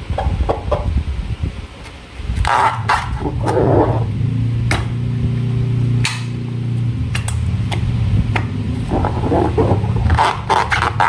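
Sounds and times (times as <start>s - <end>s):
low buzzing drone: 0.0s - 11.0s.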